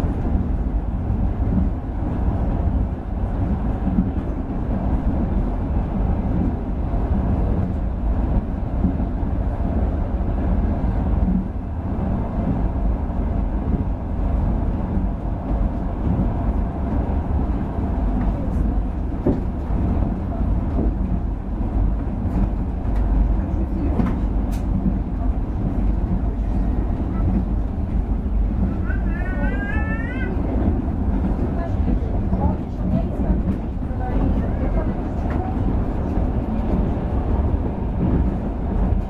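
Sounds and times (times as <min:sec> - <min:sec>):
train rumbling inside carriage: 0:00.0 - 0:39.0.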